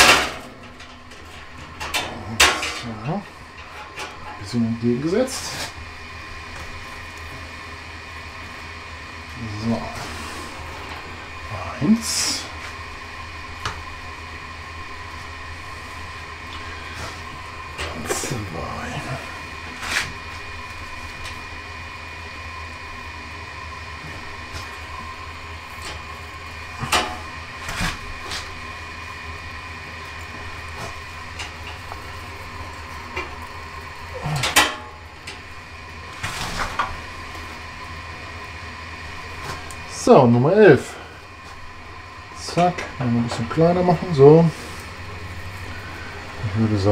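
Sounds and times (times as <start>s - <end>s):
blower fan humming: 0.0s - 46.9s.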